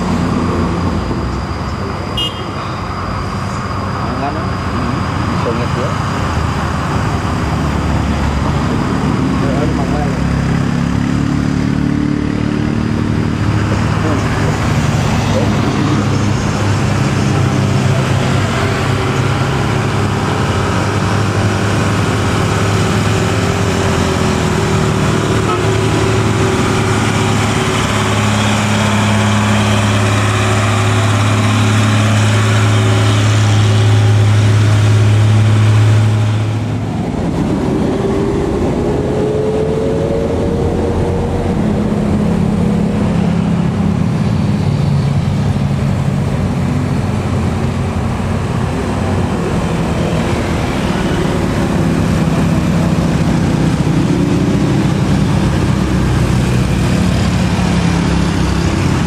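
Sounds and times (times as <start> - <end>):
truck diesel engine under load: 0.0 - 59.0
truck engine pitch rising: 0.0 - 59.0.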